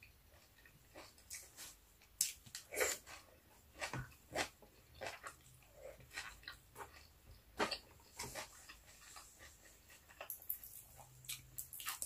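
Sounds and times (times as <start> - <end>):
person chewing: 0.3 - 12.0.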